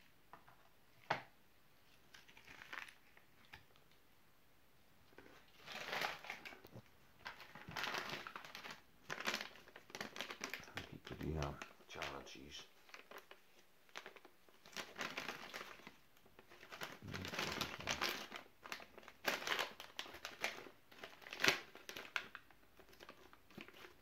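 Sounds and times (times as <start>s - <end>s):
foil pouch crinkling and tearing: 2.1s - 3.6s, 5.5s - 6.6s, 7.2s - 24.0s.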